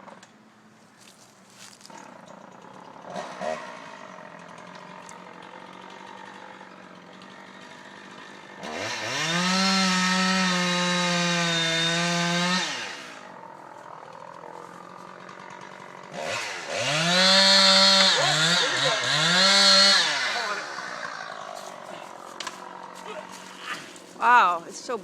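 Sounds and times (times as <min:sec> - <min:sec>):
chainsaw revving: 0:01.6 - 0:25.0.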